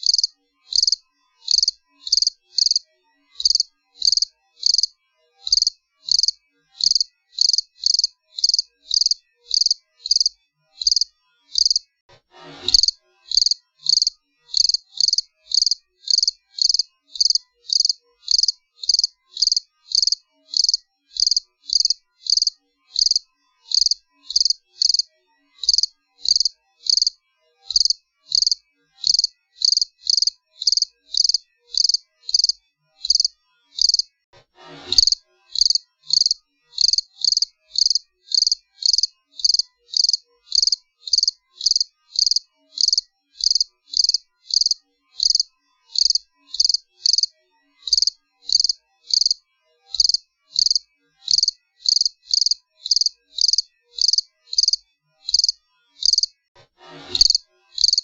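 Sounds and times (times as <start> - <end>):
cricket chirping: 0.0 - 2.8, 3.4 - 4.9, 5.5 - 11.8, 12.8 - 34.1, 35.0 - 47.3, 47.9 - 49.4, 50.0 - 56.3, 57.3 - 58.0.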